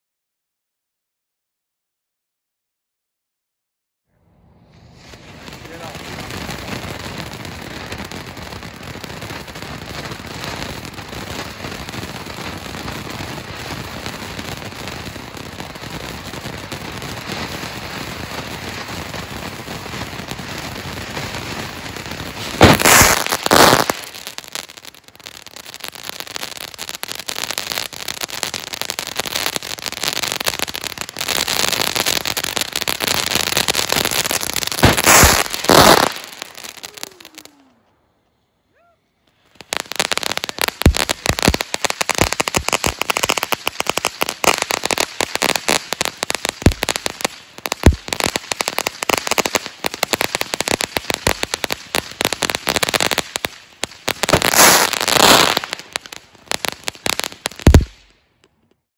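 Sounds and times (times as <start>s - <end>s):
firework fountain crackling and hissing: 4.4s - 38.6s, 39.2s - 58.9s.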